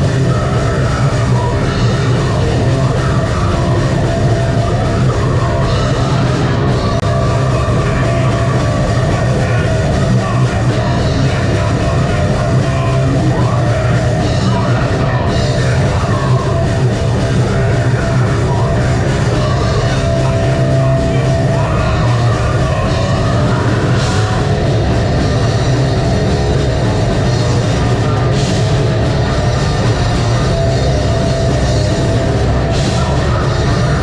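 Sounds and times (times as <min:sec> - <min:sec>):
bass guitar: 0:00.0 - 0:34.0
distorted guitars: 0:00.0 - 0:34.0
drums: 0:00.0 - 0:34.0.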